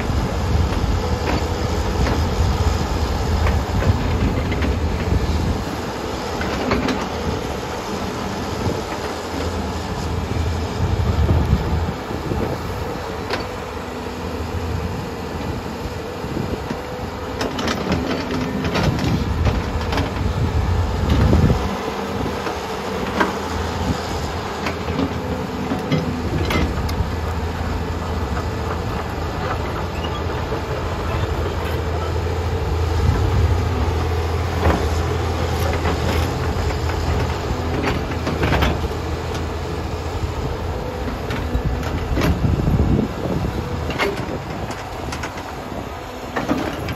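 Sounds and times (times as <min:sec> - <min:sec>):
excavator diesel engine droning: 0:00.0 - 0:46.9.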